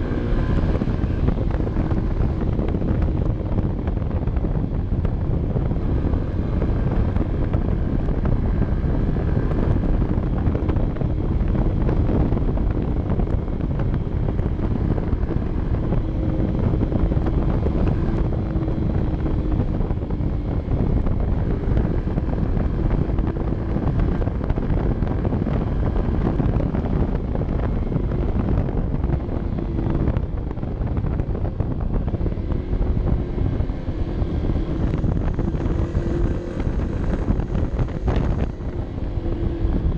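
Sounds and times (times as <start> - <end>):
motorcycle engine running: 0.0 - 39.9
wind buffeting on microphone: 0.0 - 39.9.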